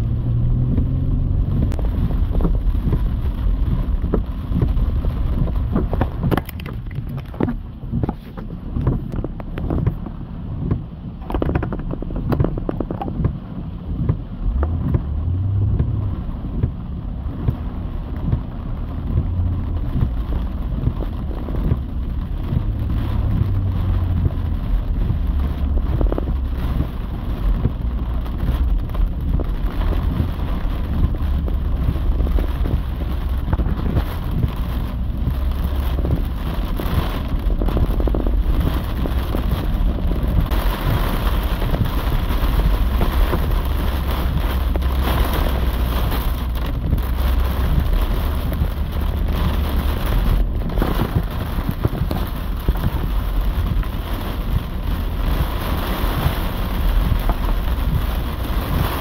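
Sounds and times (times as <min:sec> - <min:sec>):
car driving low rumble: 0:00.0 - 0:59.0
heavy rain on a car: 0:00.0 - 0:59.0.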